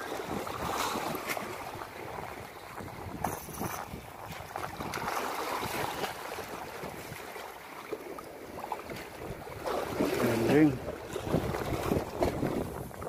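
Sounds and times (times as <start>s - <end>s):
wind on microphone: 0.0s - 7.4s, 8.8s - 13.0s
small waves splashing on rocks: 0.0s - 13.0s.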